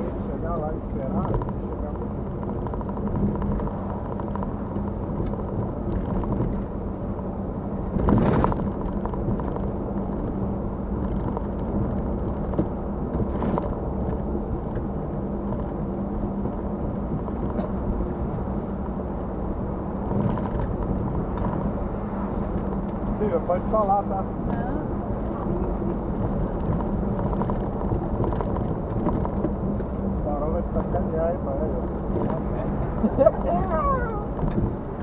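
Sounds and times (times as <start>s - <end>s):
engine hum: 0.0s - 35.0s
road noise: 0.0s - 35.0s.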